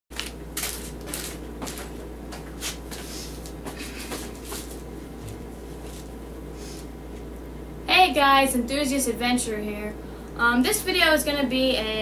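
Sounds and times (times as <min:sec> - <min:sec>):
steady low hum: 0:00.1 - 0:12.0.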